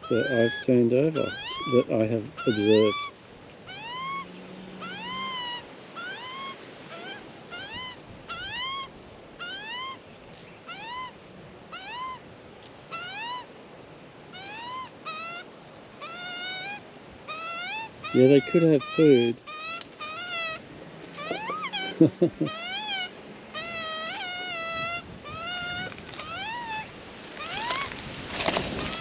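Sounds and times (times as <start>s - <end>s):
bird chick begging squawks: 1.2s - 10.0s, 10.6s - 12.2s, 12.9s - 13.5s, 14.3s - 28.0s.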